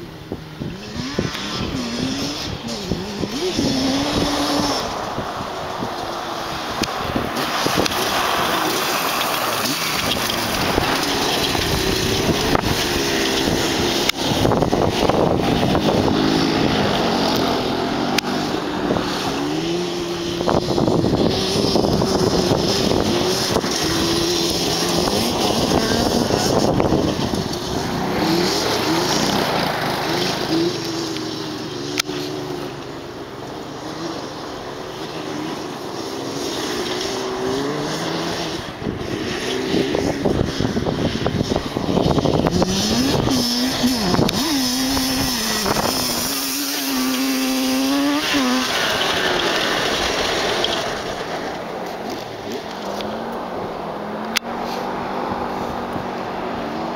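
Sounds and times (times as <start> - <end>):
two-stroke engine revving: 0.0 - 56.9.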